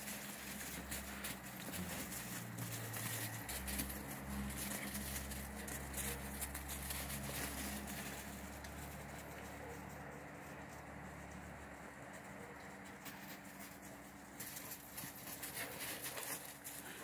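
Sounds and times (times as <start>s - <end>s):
dogs' paws running through snow: 0.0s - 17.0s.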